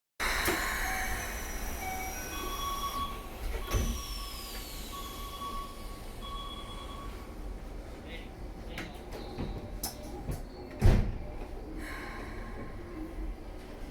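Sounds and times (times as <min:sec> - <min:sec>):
train low steady hum: 0:00.2 - 0:13.9.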